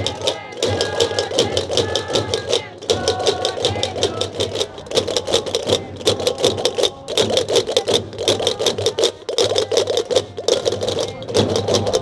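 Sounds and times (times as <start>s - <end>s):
wooden castanets clattering: 0.0s - 12.0s.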